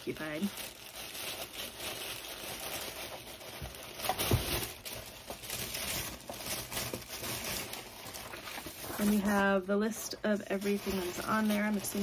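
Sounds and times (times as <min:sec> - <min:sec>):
paper packaging rustling: 0:00.0 - 0:12.0.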